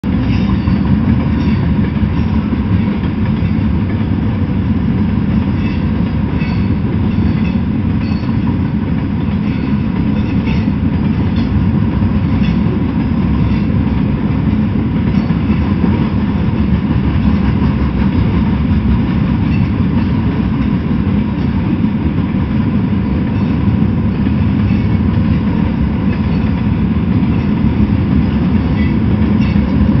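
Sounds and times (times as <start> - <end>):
rail cars clicking and rattling: 0.0 - 30.0
train wheels rumbling on rails: 0.0 - 30.0.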